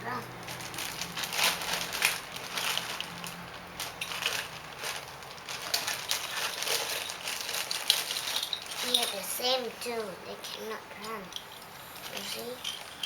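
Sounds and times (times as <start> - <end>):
plastic toy cars rustling and clicking: 0.4 - 13.0.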